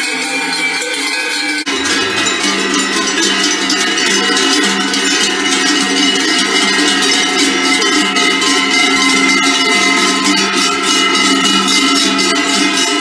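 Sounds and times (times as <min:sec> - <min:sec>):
cowbells clanging: 0:00.0 - 0:13.0.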